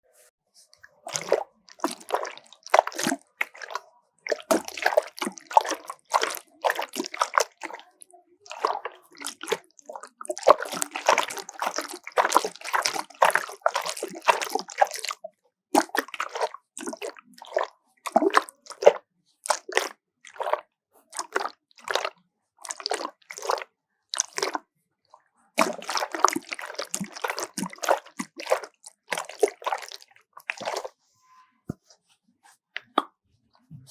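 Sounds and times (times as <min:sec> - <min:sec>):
water splashing in a bottle: 0:00.7 - 0:24.6, 0:25.6 - 0:31.0, 0:32.8 - 0:33.2.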